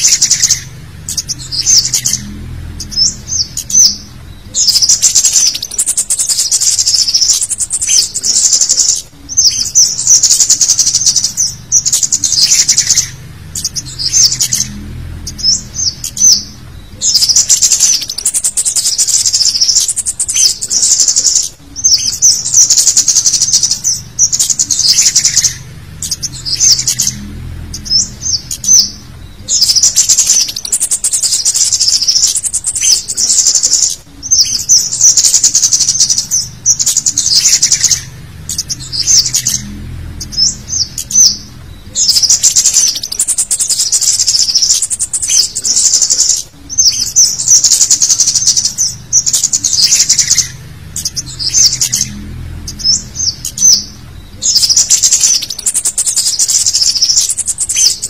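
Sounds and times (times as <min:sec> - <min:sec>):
songbirds chirping and chattering: 0:00.0 - 0:58.0.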